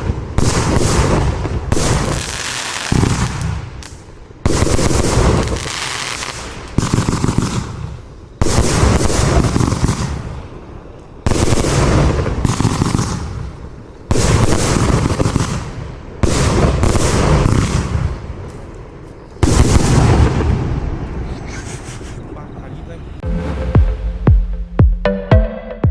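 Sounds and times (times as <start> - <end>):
firework cake firing volleys: 0.0 - 21.2.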